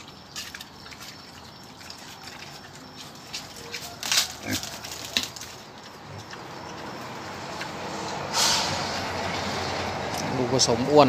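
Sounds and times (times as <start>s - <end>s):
pig calls: 0.0s - 9.6s
pigs grunting: 0.0s - 11.0s.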